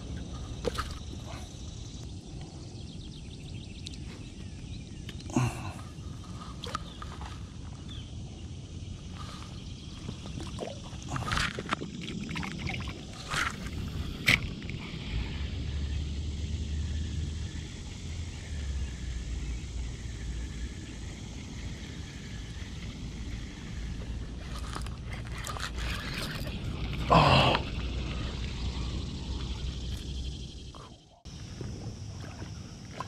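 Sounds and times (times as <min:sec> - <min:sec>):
water lapping around a boat: 0:00.0 - 0:02.8, 0:03.6 - 0:15.8, 0:17.6 - 0:33.0
steady low hum: 0:00.0 - 0:33.0.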